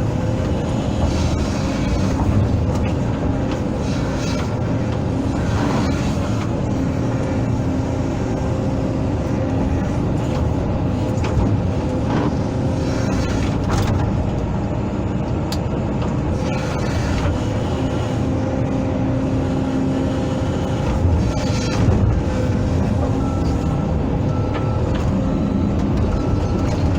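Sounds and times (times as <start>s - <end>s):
excavator diesel engine droning: 0.0s - 26.9s.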